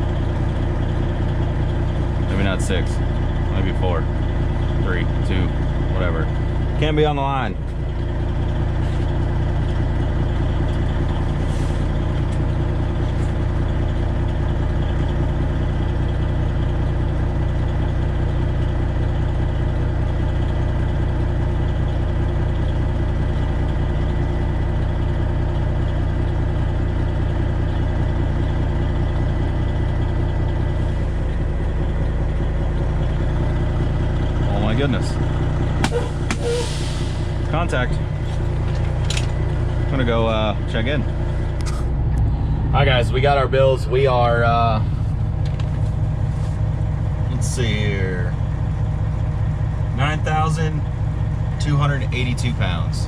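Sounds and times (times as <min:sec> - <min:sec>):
diesel truck engine idling: 0:00.0 - 0:53.0.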